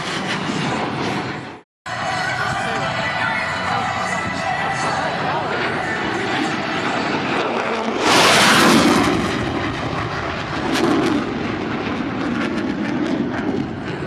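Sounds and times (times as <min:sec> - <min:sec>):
jet aircraft engine roar: 0:00.0 - 0:14.0.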